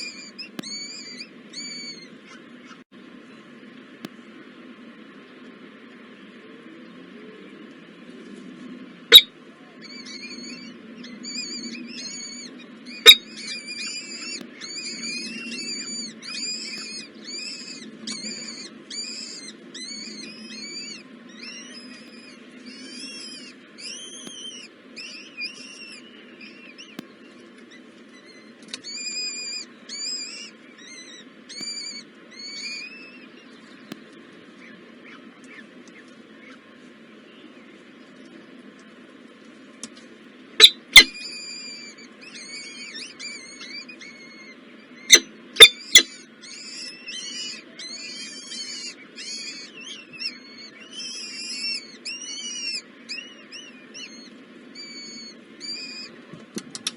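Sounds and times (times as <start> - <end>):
nestling birds chirping: 0.0 - 56.9.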